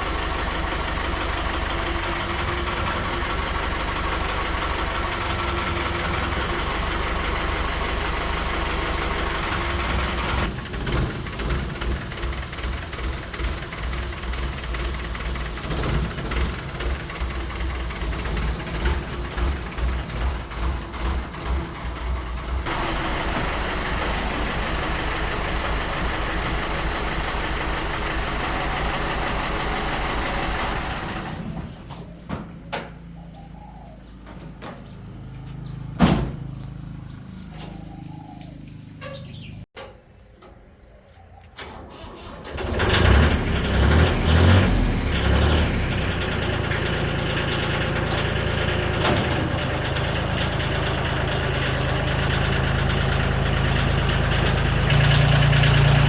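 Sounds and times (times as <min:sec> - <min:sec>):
engine starting and idling: 0:00.0 - 0:33.4, 0:41.5 - 0:56.0
engine running: 0:00.0 - 0:39.7, 0:41.6 - 0:56.0.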